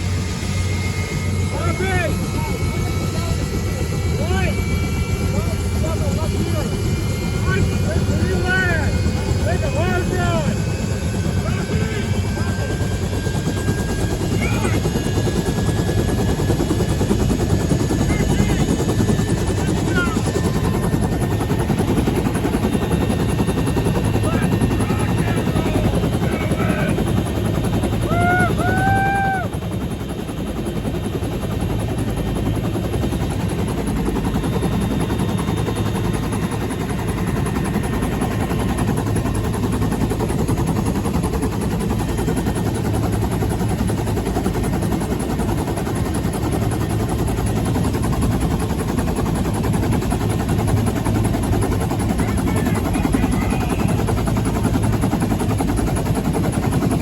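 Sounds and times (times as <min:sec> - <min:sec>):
helicopter rotor chop: 0:00.0 - 0:57.0
turbine engine whine: 0:00.0 - 0:57.0.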